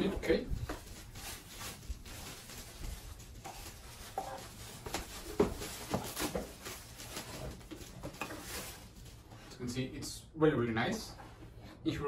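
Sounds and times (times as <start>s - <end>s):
plastic bag rustling: 0.0s - 9.8s.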